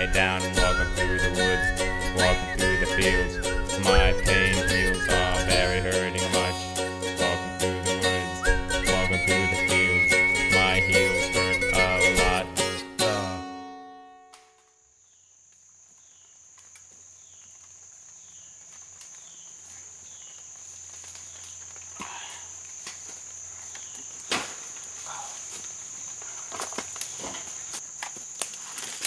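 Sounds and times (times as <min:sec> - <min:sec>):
crickets droning: 0:00.0 - 0:12.8, 0:14.8 - 0:29.0.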